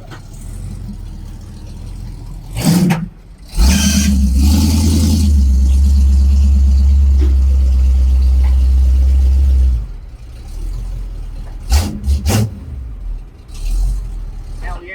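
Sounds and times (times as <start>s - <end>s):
monster truck engine running: 0.0s - 14.9s
quieter rumble: 0.0s - 14.9s.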